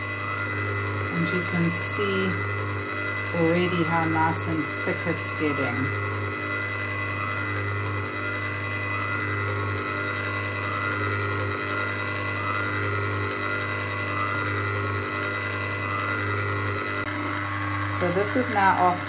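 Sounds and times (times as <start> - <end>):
ice cream maker motor humming: 0.0 - 19.0.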